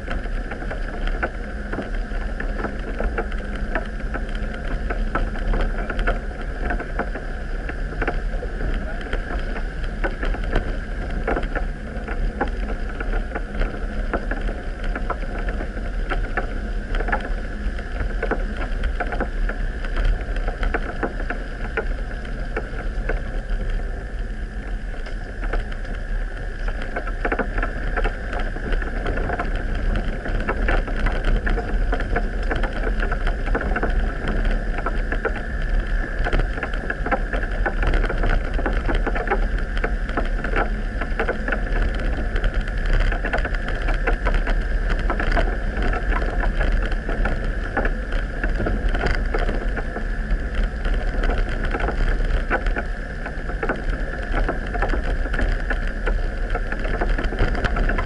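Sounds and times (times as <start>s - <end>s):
constant hum: 0.0s - 58.0s
continual crackling: 0.0s - 58.0s
deep rumble: 0.0s - 58.0s
vehicle engine and tyre noise: 0.0s - 58.0s.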